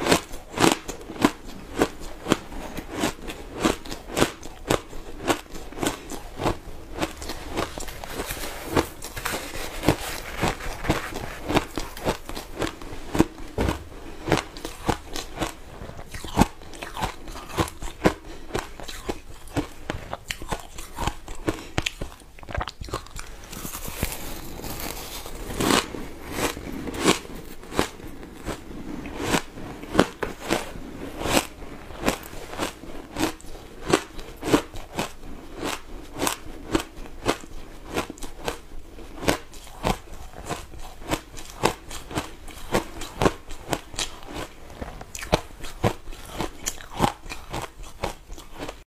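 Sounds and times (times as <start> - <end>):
chewing crunchy shaved ice: 0.0 - 48.8.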